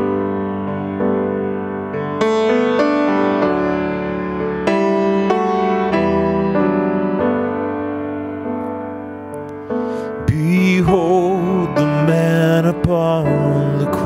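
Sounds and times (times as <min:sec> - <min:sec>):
grand piano chords: 0:00.0 - 0:14.0.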